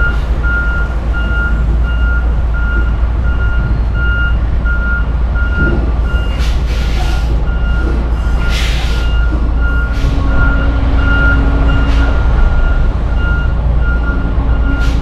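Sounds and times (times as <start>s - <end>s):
engine rumble: 0.0s - 15.0s
truck backup alarm beeping: 0.0s - 15.0s.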